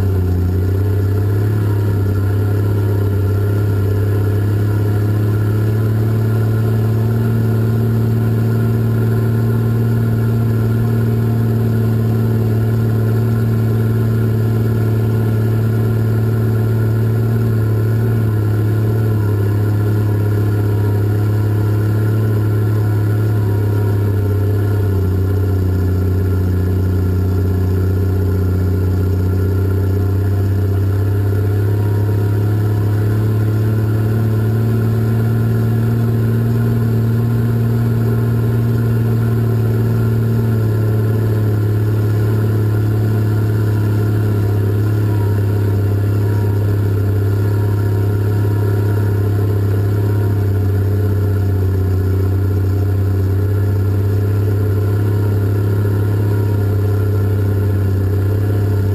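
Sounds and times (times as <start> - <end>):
diesel engines droning: 0.0 - 58.9.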